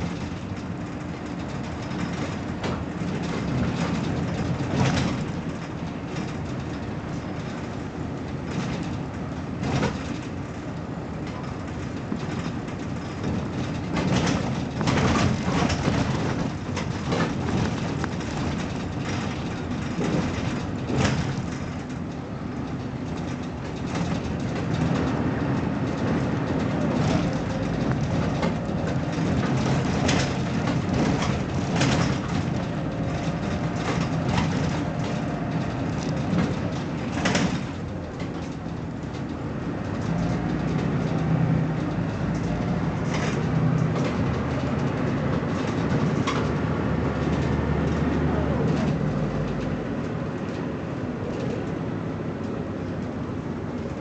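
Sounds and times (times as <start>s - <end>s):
bodywork rattles and knocks: 0.0s - 54.0s
bus engine and road rumble: 0.0s - 54.0s.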